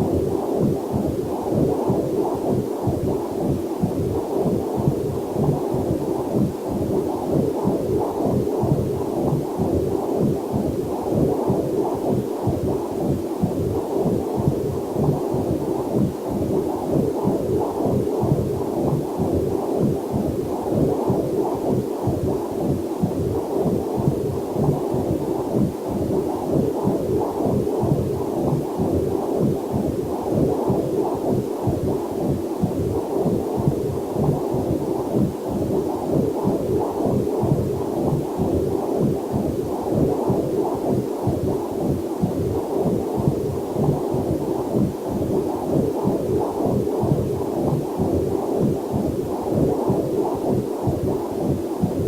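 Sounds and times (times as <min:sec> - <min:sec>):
fetal heartbeat on doppler: 0:00.0 - 0:52.0.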